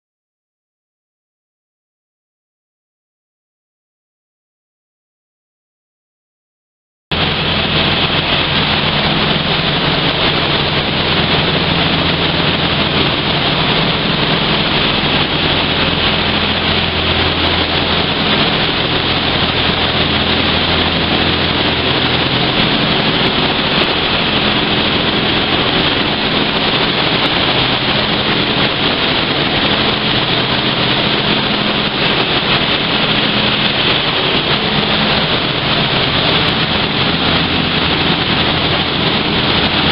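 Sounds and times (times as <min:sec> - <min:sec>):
low machinery hum: 0:07.1 - 0:39.9.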